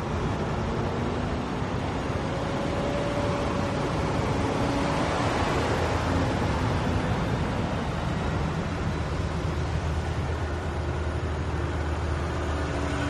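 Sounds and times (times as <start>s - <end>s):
truck engine and road drone: 0.0s - 13.0s.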